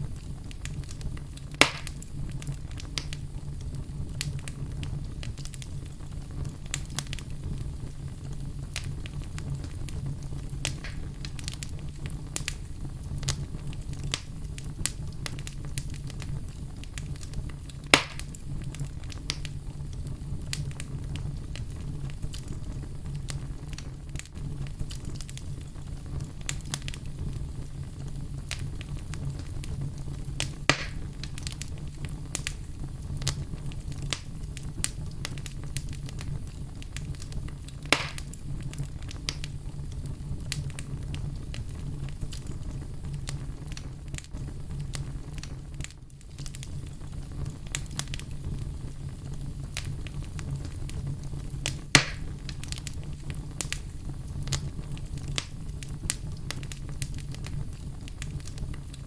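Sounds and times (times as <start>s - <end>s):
fire crackling in a fireplace: 0.0s - 59.0s
loud pops from fire: 0.0s - 59.0s.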